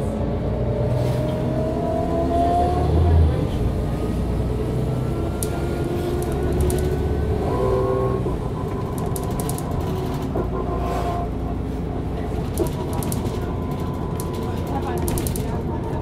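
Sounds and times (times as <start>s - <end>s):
bus engine drone: 0.0s - 16.0s
whining drivetrain: 2.1s - 16.0s.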